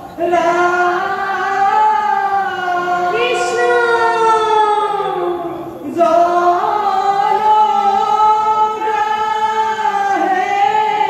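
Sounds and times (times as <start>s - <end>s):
group chanting in unison: 0.0s - 11.0s.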